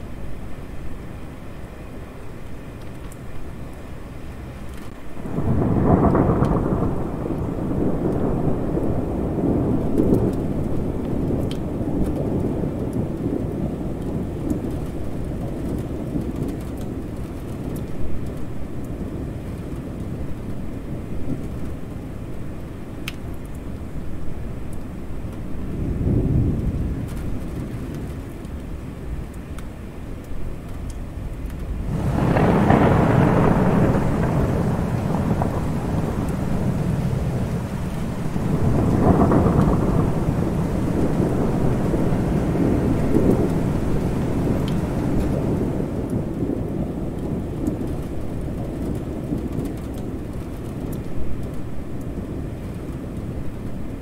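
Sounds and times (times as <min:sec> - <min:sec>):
steady rain: 0:00.0 - 0:54.0
rolling thunder: 0:04.9 - 0:22.1, 0:25.2 - 0:29.3, 0:30.8 - 0:54.0.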